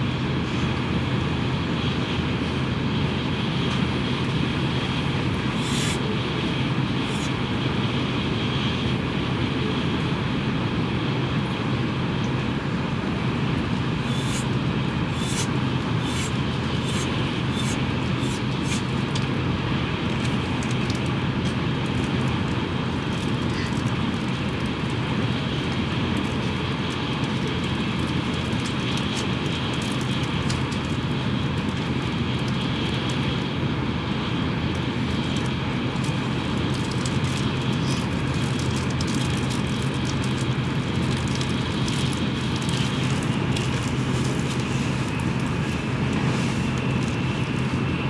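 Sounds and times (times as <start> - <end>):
train running at speed: 0.0 - 48.0.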